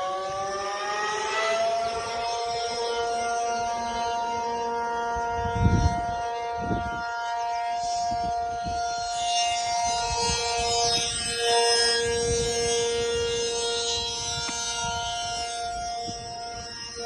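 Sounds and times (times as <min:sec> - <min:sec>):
siren steady tone: 0:00.0 - 0:17.0.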